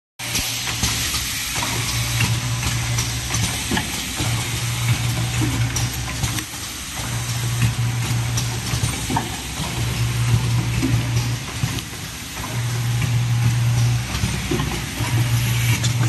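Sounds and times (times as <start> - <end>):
pneumatic clicks: 0.3 - 12.7, 13.5 - 16.0.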